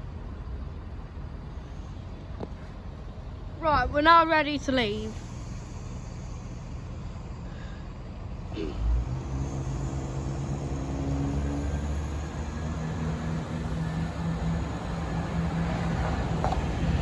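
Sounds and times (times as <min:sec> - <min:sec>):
diesel train engines throttling up: 0:00.0 - 0:17.0.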